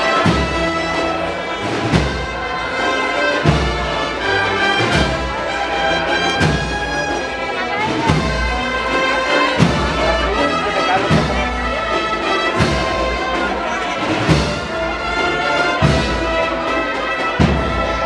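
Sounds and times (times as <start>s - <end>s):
bass drum beats: 0.0s - 16.6s
brass march: 0.0s - 18.0s.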